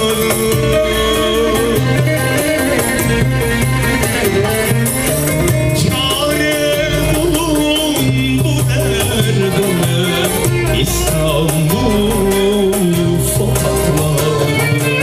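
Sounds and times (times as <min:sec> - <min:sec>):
amplified folk dance music: 0:00.0 - 0:15.0.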